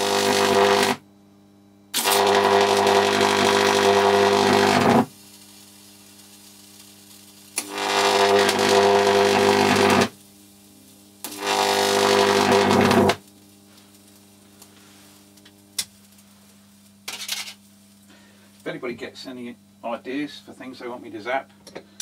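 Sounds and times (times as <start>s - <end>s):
electrical arc buzzing and crackling: 0.0s - 22.0s.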